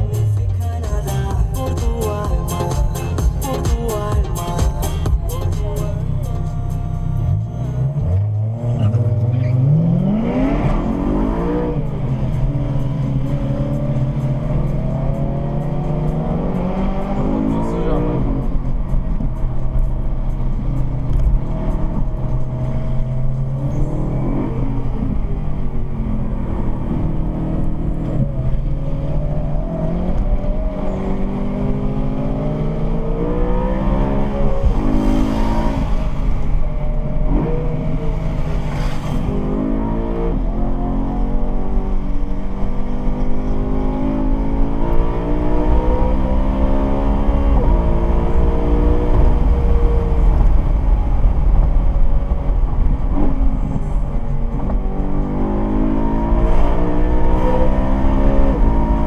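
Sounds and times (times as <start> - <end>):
road rumble: 0.0 - 59.0
sports car engine shifting gears: 7.1 - 59.0.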